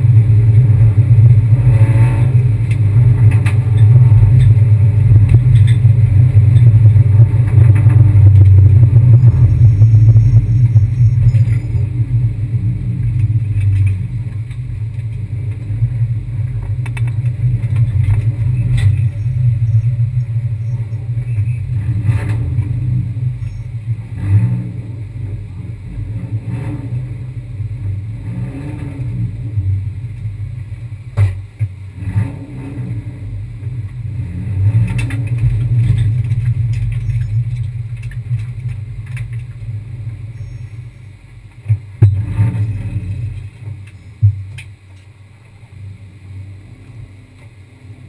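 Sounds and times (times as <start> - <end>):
car engine and road drone: 0.0 - 48.0.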